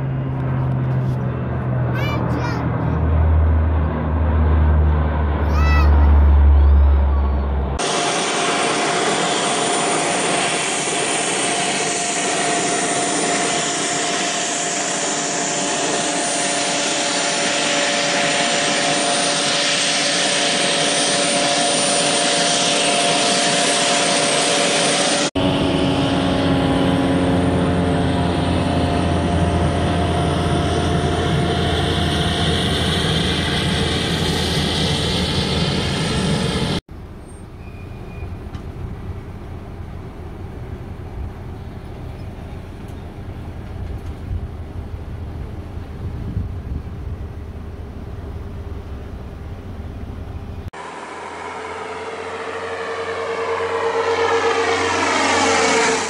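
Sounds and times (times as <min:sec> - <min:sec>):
jet engines roaring: 0:00.0 - 0:36.9, 0:38.4 - 0:56.0
distant engine: 0:00.0 - 0:56.0.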